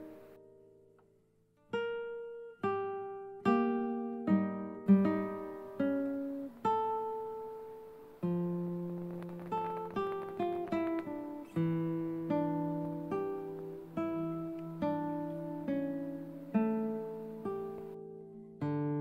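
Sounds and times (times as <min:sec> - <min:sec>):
solo plucked guitar: 0:00.0 - 0:19.0.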